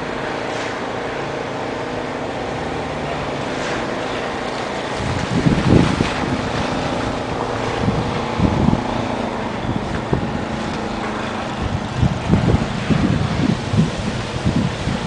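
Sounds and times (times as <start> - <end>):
outdoor rumble: 0.0 - 15.0
wind buffeting microphone: 0.0 - 15.0.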